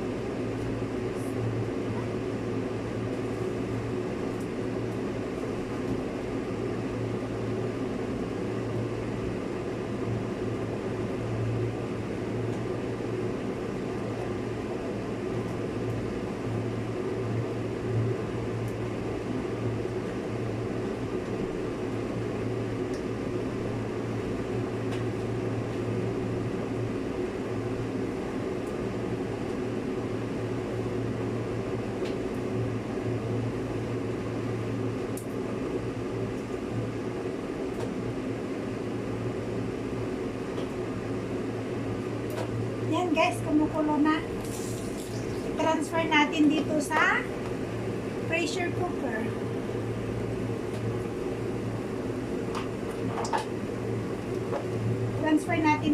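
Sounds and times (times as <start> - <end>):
steady machine hum: 0.0 - 55.9.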